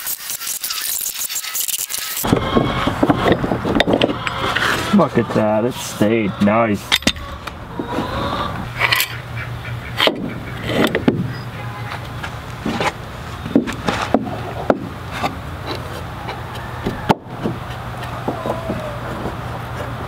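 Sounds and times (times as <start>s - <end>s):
wood rubbing: 0.0s - 20.0s.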